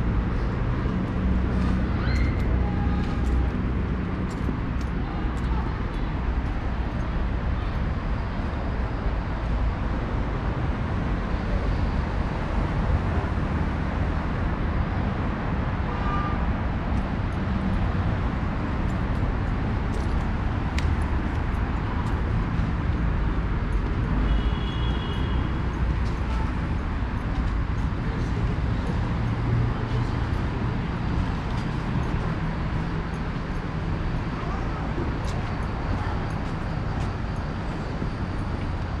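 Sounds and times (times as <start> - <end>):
cars and buses passing: 0.0 - 39.0.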